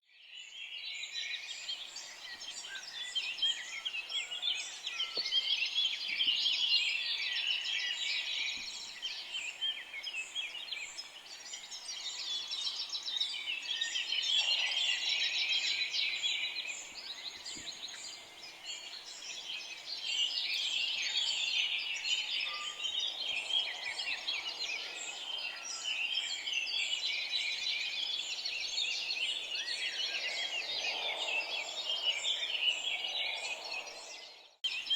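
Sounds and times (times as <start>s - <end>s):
flock of small birds chirping: 0.1s - 34.9s.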